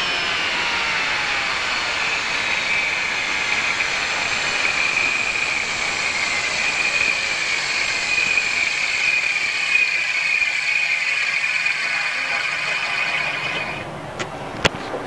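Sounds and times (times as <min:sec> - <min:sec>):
high-pitched whine: 0:00.0 - 0:14.6
alternator pulley ringing knock: 0:01.6 - 0:13.9.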